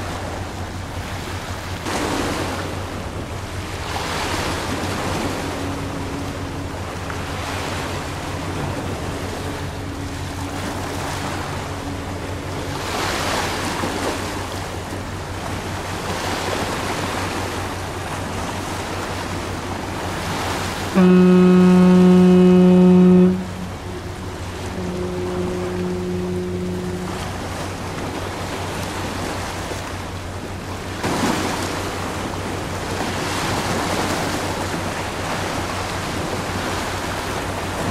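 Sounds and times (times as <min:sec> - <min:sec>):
harbour water: 0:00.0 - 0:37.9
ship's horn blast: 0:00.0 - 0:37.9
wind: 0:00.0 - 0:37.9.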